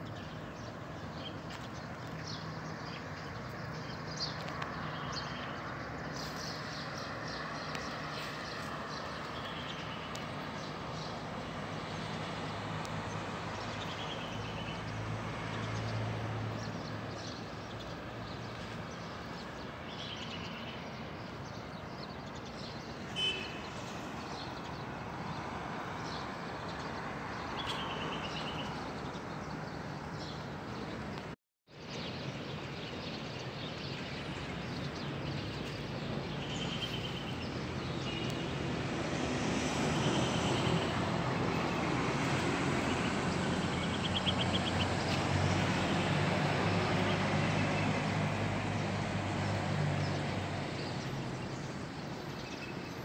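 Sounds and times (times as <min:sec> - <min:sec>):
low town hum: 0:00.0 - 0:53.0.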